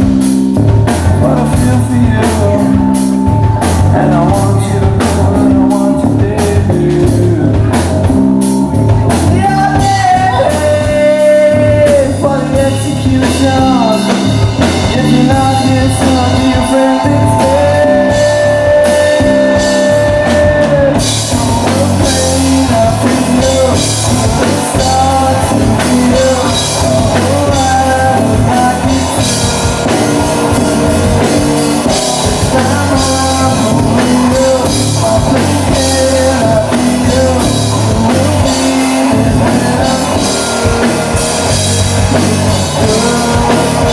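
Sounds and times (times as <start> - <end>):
live rock band playing: 0.0 - 43.9
singer holding long notes: 0.0 - 43.9.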